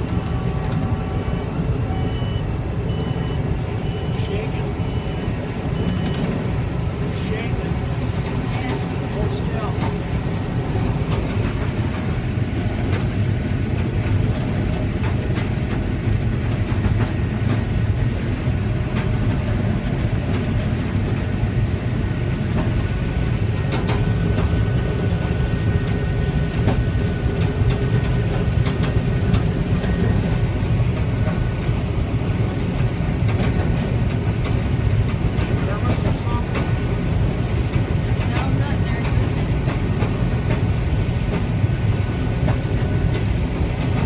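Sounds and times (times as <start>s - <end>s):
machinery rattles and clicks: 0.0s - 2.3s, 4.3s - 6.6s, 7.2s - 21.4s, 22.5s - 44.0s
harvest machinery droning: 0.0s - 44.0s.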